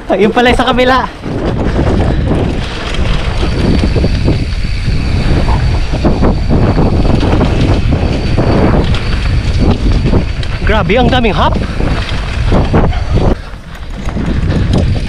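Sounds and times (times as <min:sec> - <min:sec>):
wind rushing over microphone: 0:00.0 - 0:15.0
bike rattling and knocking: 0:00.3 - 0:15.0.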